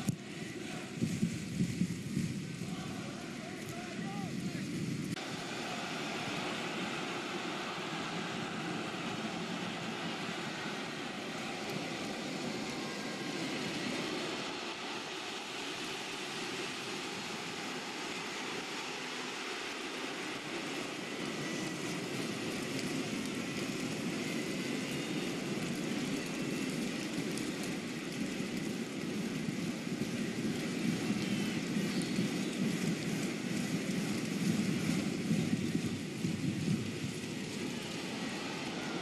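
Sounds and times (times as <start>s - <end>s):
stadium crowd roar: 0.0s - 39.0s.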